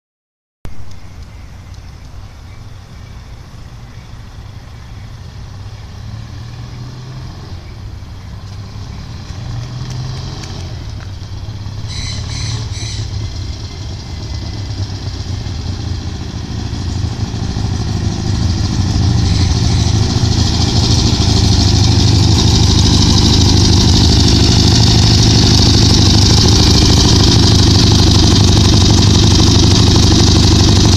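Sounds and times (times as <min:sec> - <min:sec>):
motorcycle engine: 0:03.6 - 0:30.9.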